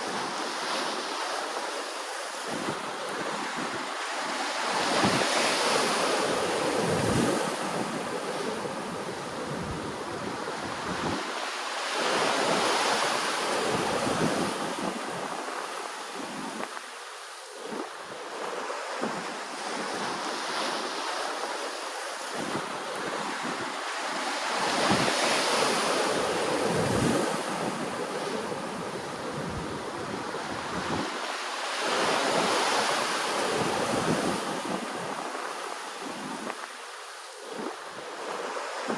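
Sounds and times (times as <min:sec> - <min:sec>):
wind rumbling on microphone: 0:00.0 - 0:17.0, 0:17.6 - 0:38.9
ocean waves breaking: 0:00.0 - 0:38.9.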